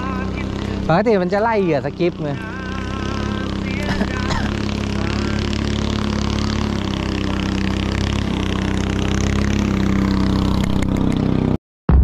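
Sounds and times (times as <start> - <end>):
boat engine running steadily: 0.0 - 11.6.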